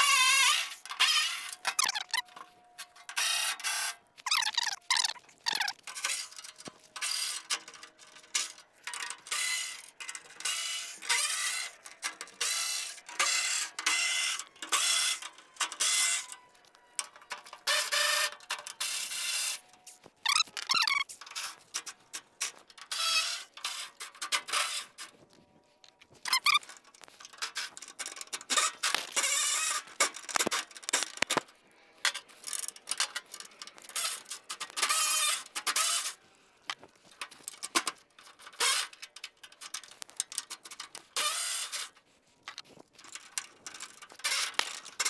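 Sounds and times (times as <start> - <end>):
ratchet wrench clicking: 0.0 - 2.3, 2.9 - 16.4, 20.2 - 21.8, 26.3 - 45.0
squeaking bolts: 0.0 - 25.2, 26.2 - 45.0.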